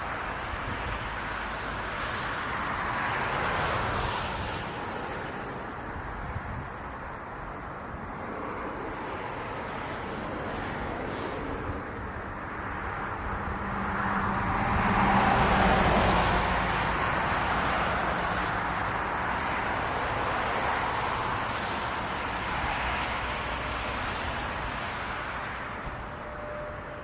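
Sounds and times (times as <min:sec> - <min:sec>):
jet airliner engine roar: 0:00.0 - 0:27.0.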